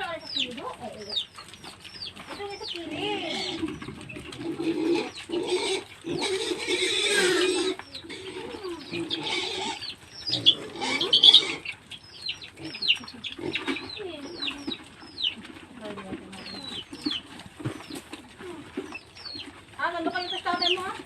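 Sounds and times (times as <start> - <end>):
pigs grunting and squealing: 0.0 - 21.0.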